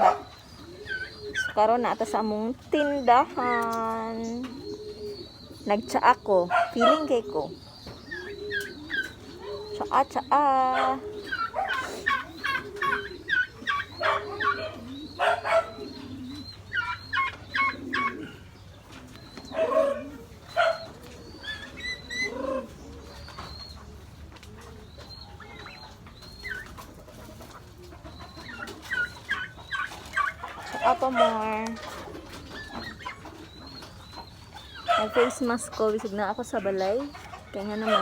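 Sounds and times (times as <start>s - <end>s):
birds chirping: 0.0s - 38.0s
doves cooing: 0.0s - 38.0s.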